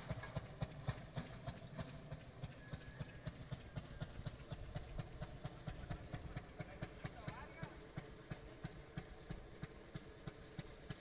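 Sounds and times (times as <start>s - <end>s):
rail trolley engine chugging: 0.0s - 11.0s.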